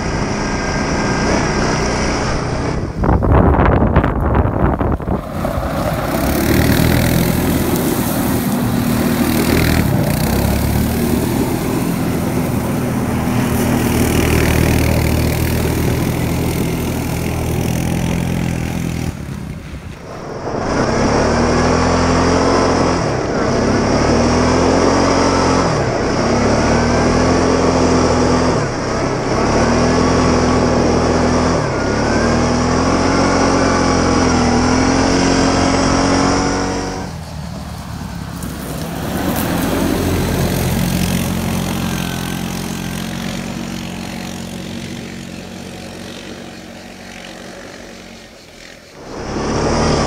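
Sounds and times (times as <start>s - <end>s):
quad engine revving: 0.0s - 50.0s
quad riding past: 0.0s - 50.0s.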